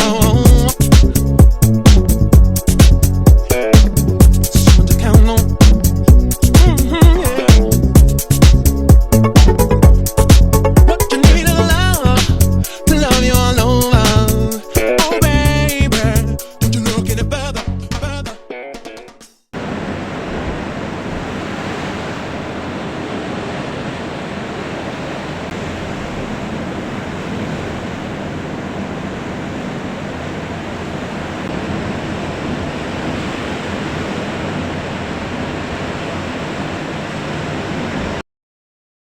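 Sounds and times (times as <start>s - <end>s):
ocean surf rushing: 0.0s - 13.4s, 19.6s - 38.2s.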